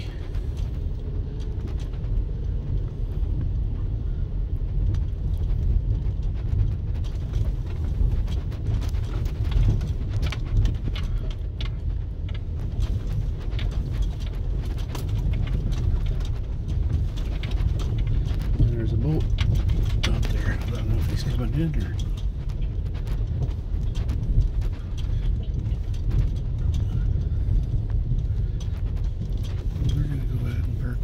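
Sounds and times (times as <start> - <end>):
car knocks and rattles: 0.0 - 31.0
tyres rumbling on dirt road: 0.0 - 31.0.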